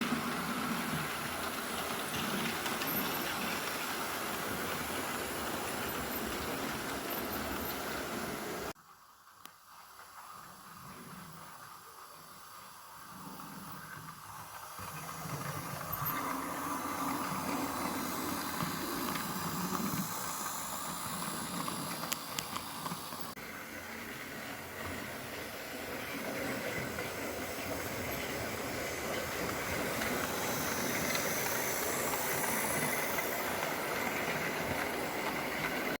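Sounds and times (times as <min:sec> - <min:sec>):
model train whirring and rolling: 0:00.0 - 0:36.0.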